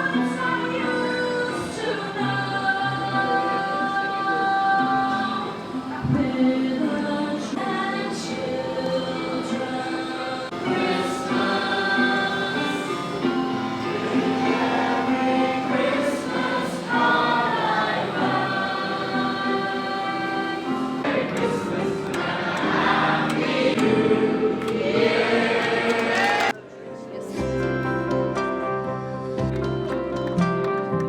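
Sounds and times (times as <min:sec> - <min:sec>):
choir singing: 0:00.0 - 0:26.6.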